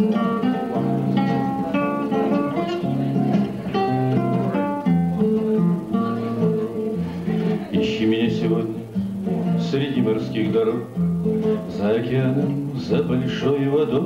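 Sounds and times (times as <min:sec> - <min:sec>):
fingerpicked acoustic guitar: 0:00.0 - 0:14.0.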